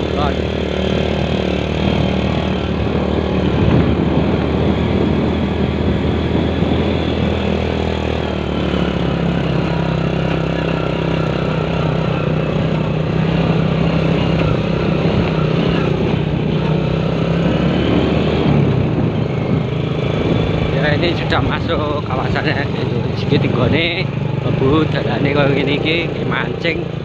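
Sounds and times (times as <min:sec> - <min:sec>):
motorcycle engine running: 0:00.0 - 0:27.0
road and wind noise: 0:00.0 - 0:27.0.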